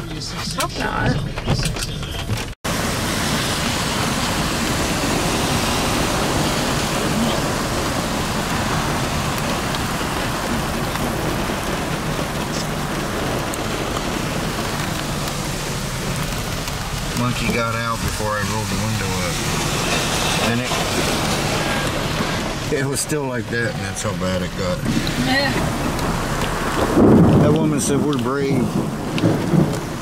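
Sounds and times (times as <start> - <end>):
heavy rain pouring: 2.4 - 30.0.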